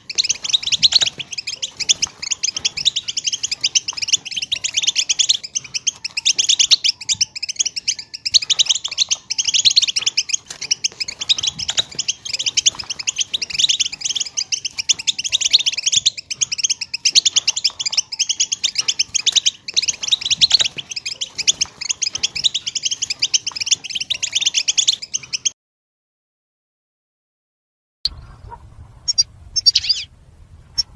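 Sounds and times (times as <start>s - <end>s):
goldfinch twittering: 0.0s - 25.5s, 29.1s - 30.1s.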